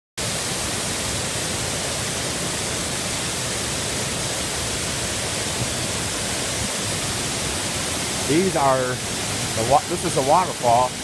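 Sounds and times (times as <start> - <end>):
waterfall rushing: 0.2 - 11.0.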